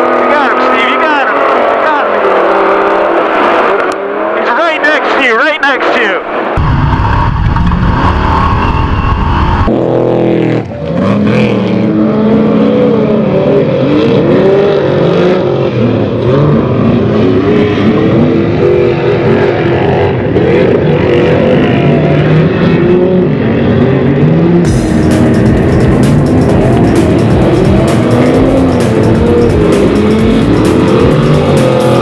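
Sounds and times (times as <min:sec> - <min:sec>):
race truck engine revving: 0:00.0 - 0:05.2, 0:05.8 - 0:32.0.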